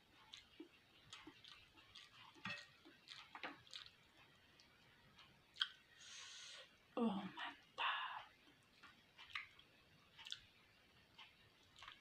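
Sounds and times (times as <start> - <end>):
person chewing: 0.0 - 6.0, 8.4 - 12.0.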